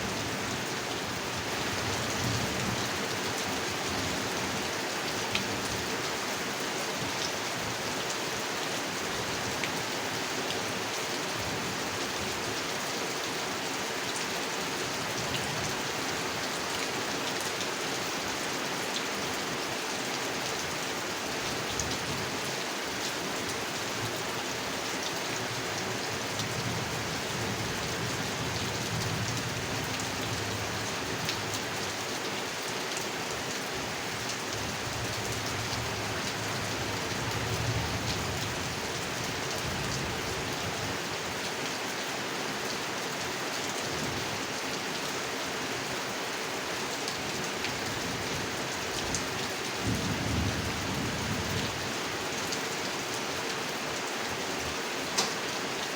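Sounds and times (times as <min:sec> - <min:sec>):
rain falling on a pond: 0:00.0 - 0:55.9.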